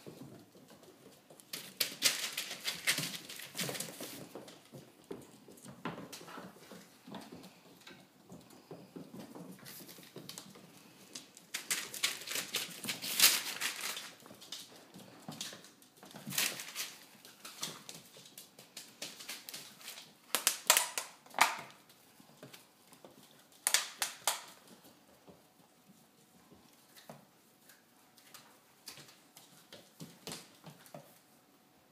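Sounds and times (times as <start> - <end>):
puppy claws clicking on wood floor: 0.0 - 31.3.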